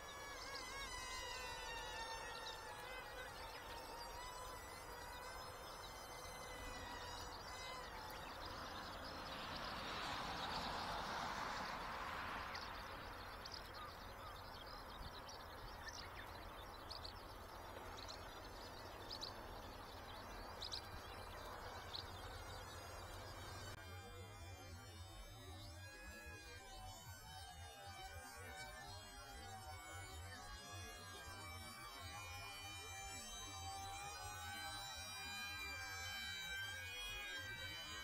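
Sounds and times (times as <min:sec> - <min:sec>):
electric motor buzzing whine: 0:00.0 - 0:38.0.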